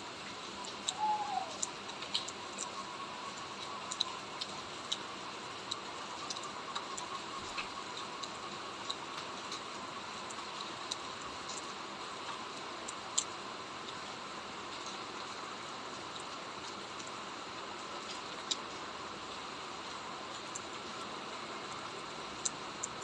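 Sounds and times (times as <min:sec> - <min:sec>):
raindrops ticking on surfaces: 0:00.0 - 0:23.0
steady rain hiss: 0:00.0 - 0:23.0.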